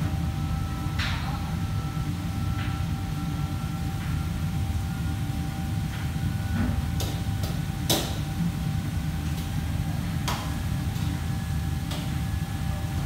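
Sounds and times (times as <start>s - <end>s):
ventilation hum with faint whine: 0.0s - 13.0s.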